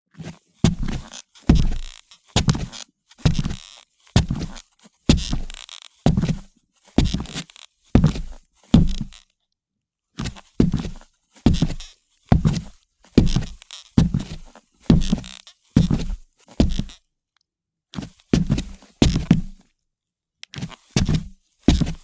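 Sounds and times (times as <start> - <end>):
boots walking on wooden floor: 0.6 - 9.2, 10.2 - 17.0, 18.0 - 19.6, 20.6 - 22.0.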